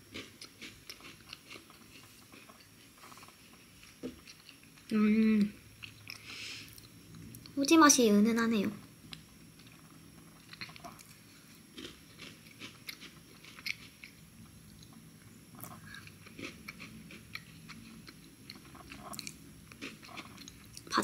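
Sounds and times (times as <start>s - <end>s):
person chewing a crunchy cookie: 0.0s - 7.6s, 9.0s - 21.0s.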